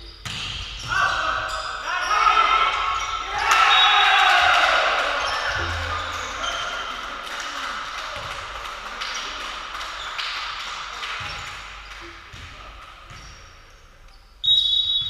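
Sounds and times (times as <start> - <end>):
noise of players and onlookers: 0.9 - 14.4.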